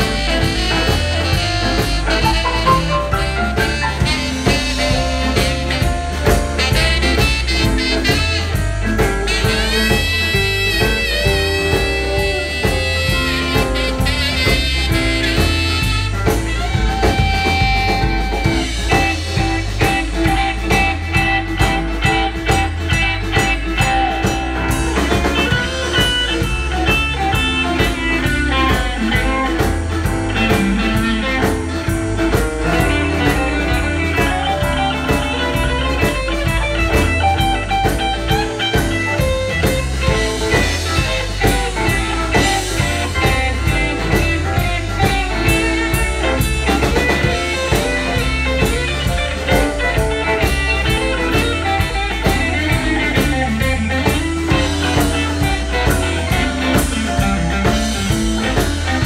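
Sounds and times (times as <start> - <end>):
live blues band playing: 0.0 - 59.0.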